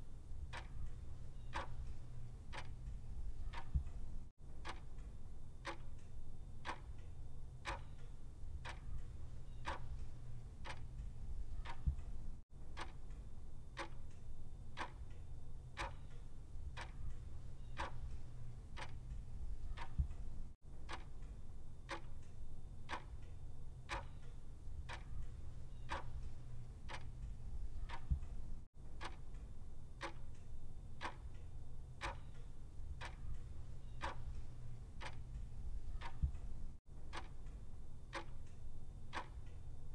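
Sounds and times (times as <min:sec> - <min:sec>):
low steady hum: 0:00.0 - 0:39.9
clock ticking: 0:00.4 - 0:13.2, 0:13.8 - 0:14.2, 0:14.8 - 0:15.2, 0:15.8 - 0:23.3, 0:23.9 - 0:31.4, 0:32.0 - 0:39.6.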